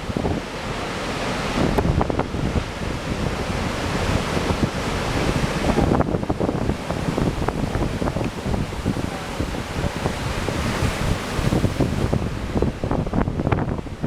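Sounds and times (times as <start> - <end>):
waves breaking: 0.0 - 14.0
wind buffeting the microphone: 0.0 - 14.0.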